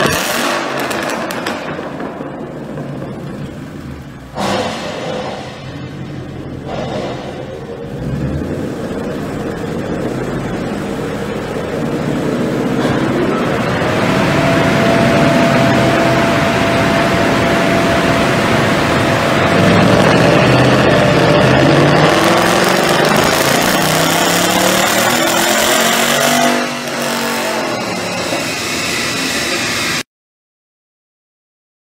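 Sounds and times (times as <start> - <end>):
car engine revving hard: 0.0 - 2.0, 3.8 - 30.0.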